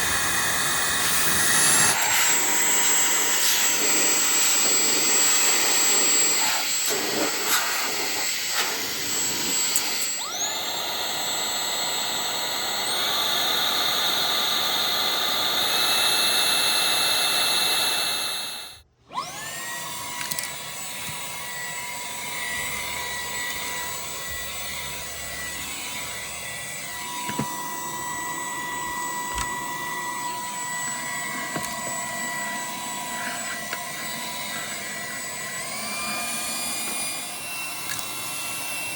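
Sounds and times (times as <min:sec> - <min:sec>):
handheld blower motor whining: 0:00.0 - 0:38.9.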